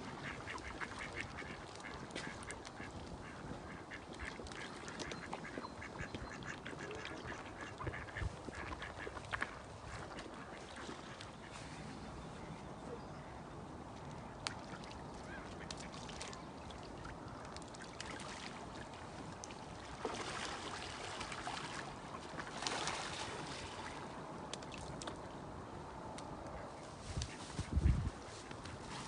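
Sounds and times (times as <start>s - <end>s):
ducks: 0.0s - 13.4s, 14.0s - 19.2s, 19.8s - 24.2s, 26.4s - 29.0s.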